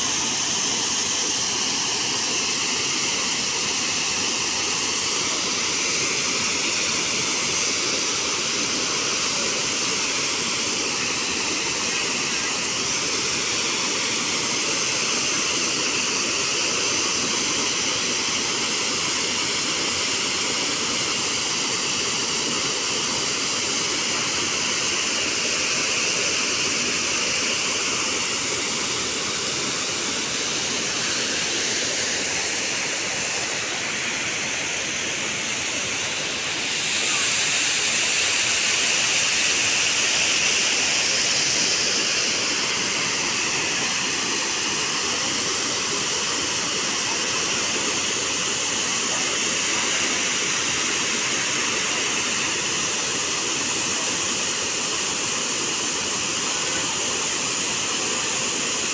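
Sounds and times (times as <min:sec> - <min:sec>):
waterfall rushing into pool: 0:00.0 - 0:58.9.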